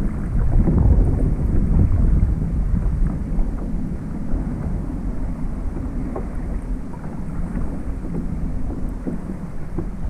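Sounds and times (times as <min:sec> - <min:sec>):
waves lapping against kayak hull: 0:00.0 - 0:10.0
wind buffeting microphone: 0:00.0 - 0:10.0.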